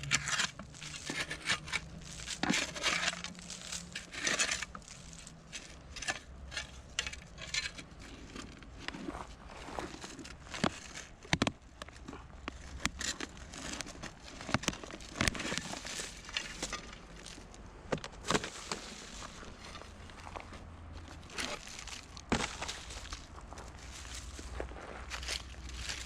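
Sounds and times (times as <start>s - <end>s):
crackling rustle: 0.0s - 26.0s.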